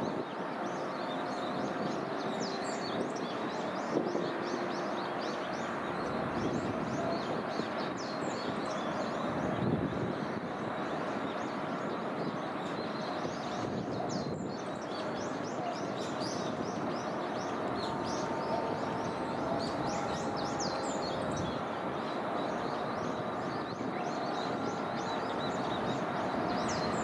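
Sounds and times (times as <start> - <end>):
steady rushing noise: 0.0 - 27.0
small birds chirping: 0.1 - 27.0.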